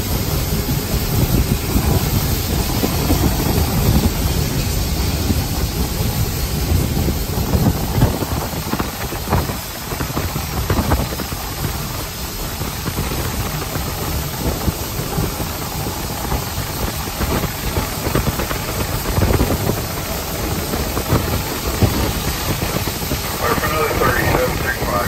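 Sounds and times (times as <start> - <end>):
steam hissing: 0.0 - 25.0.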